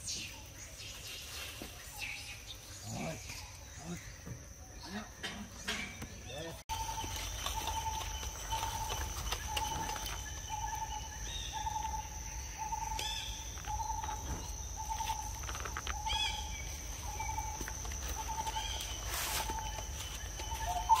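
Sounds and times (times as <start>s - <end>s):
birds chirping: 0.0s - 21.0s
high insect whine: 0.0s - 21.0s.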